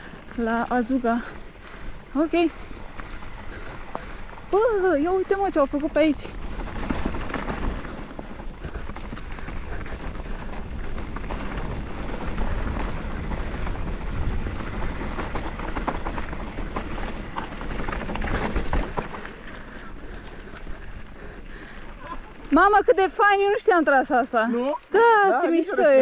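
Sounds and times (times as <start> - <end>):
wind buffeting microphone: 0.0 - 23.5
bike frame and chain rattling: 0.0 - 25.0
bike tyres crunching over dirt: 0.0 - 26.0.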